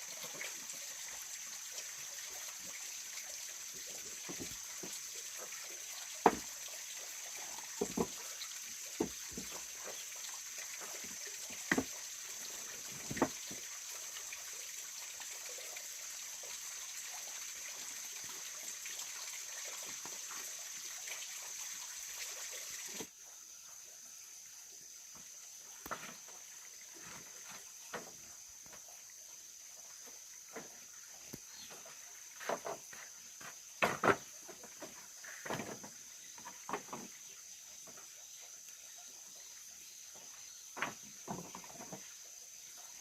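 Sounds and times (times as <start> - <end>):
water trickling: 0.0 - 43.0.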